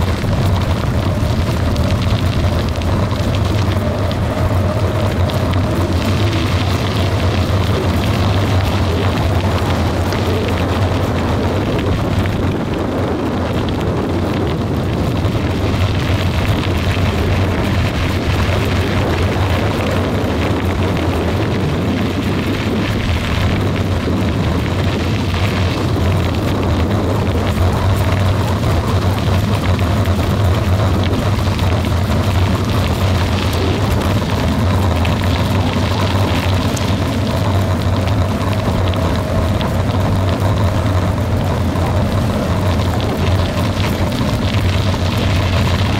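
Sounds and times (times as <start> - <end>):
tyres rolling over gravel: 0.0 - 45.9
wind rumble on microphone: 0.0 - 45.9.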